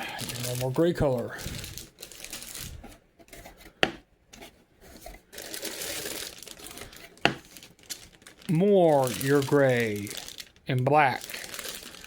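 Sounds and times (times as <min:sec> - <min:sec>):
plastic bags rustling: 0:00.0 - 0:02.9, 0:04.9 - 0:12.0.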